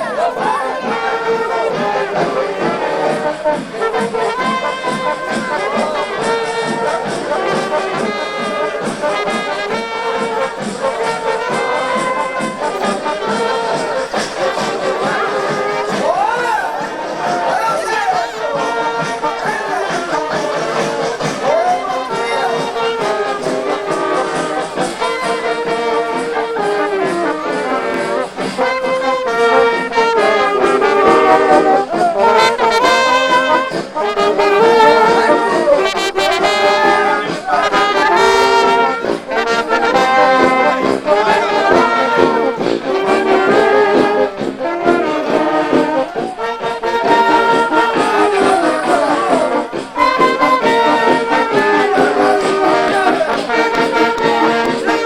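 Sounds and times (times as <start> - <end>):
brass music with horns: 0.0 - 55.0.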